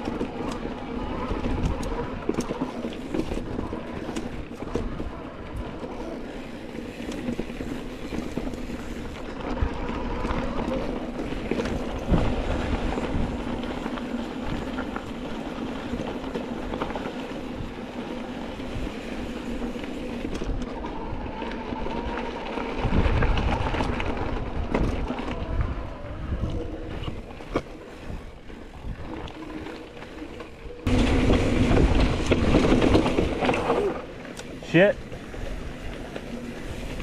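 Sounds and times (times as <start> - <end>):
bike rattling: 0.0 - 37.0
bike tyres rumbling on dirt: 0.0 - 37.0.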